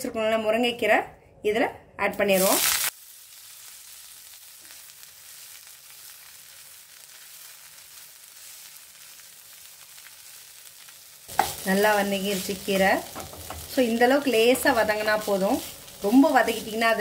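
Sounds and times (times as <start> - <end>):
leaves sizzling in hot oil: 2.3 - 17.0.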